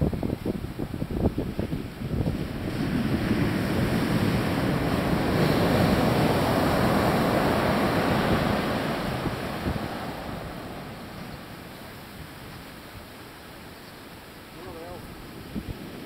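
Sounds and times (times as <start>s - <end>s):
surf breaking on beach: 0.0s - 13.1s, 14.5s - 16.0s.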